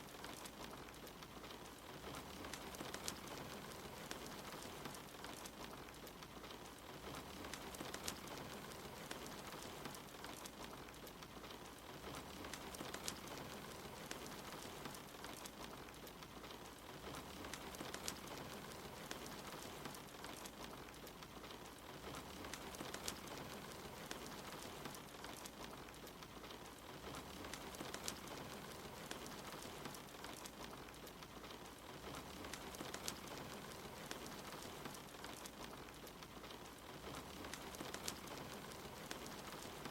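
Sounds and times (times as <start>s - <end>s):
rain hiss: 0.0s - 39.9s
wood fire crackling: 0.0s - 39.9s.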